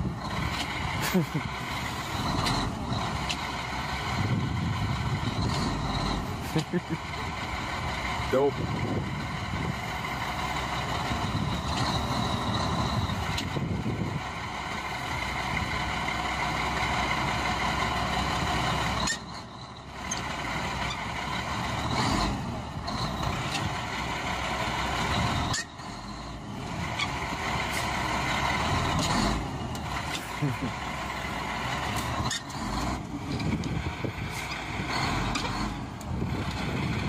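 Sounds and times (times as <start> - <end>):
diesel truck engine running hard: 0.0 - 37.0.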